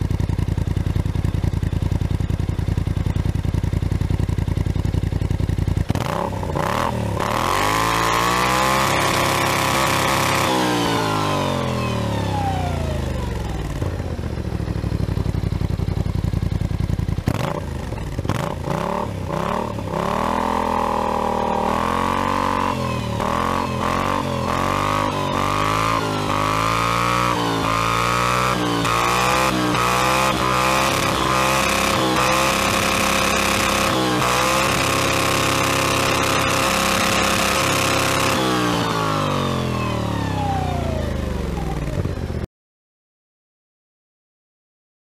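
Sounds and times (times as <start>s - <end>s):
scooter engine revving: 0.0s - 42.5s.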